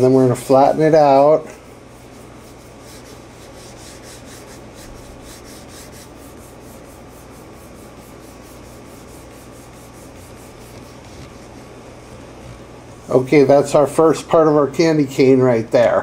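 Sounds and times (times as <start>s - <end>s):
modeling dough rubbing by hand: 0.0s - 14.6s.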